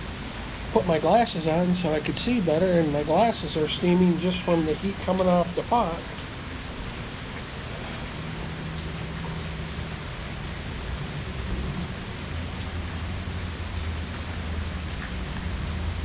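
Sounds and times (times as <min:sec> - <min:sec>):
low steady hum: 0:00.0 - 0:16.0
steady rain falling: 0:00.0 - 0:16.0.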